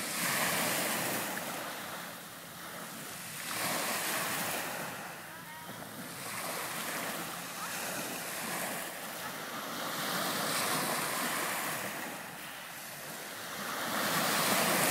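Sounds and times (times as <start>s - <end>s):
waves washing up gravel beach: 0.0s - 14.9s.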